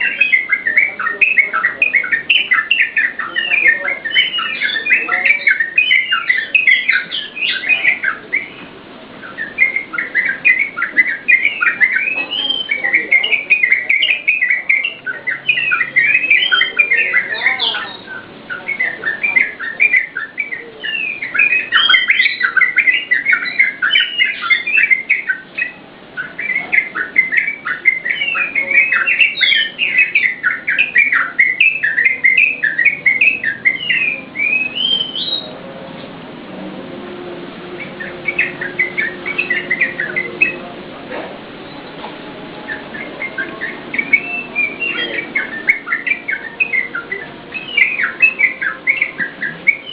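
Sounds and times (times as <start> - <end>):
bird singing chattering notes: 0.0 - 35.6, 37.6 - 49.9.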